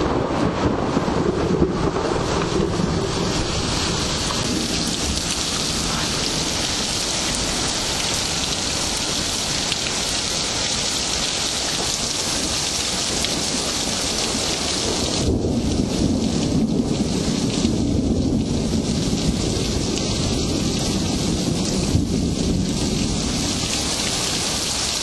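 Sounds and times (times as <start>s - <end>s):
heavy rain hissing: 0.0s - 25.0s
low thunder rumble: 0.0s - 25.0s.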